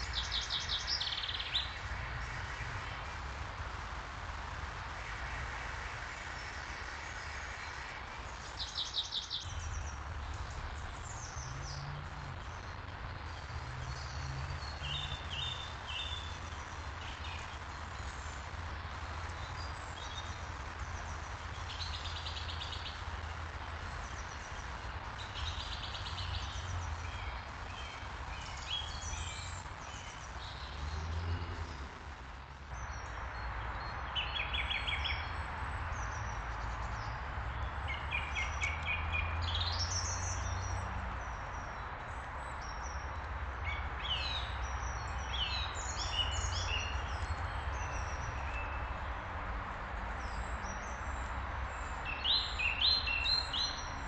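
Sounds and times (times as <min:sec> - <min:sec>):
background hiss and low rumble: 0:00.0 - 0:54.0
small birds singing: 0:00.0 - 0:54.0.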